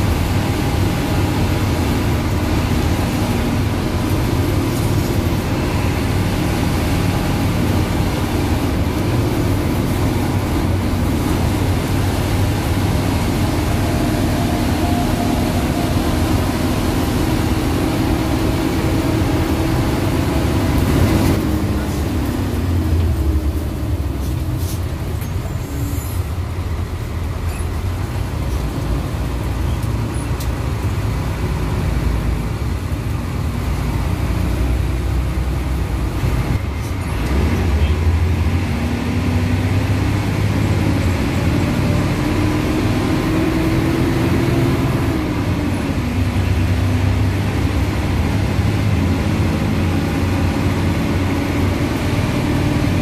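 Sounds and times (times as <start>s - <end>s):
bus engine rumble: 0.0s - 53.0s
road noise: 0.0s - 53.0s.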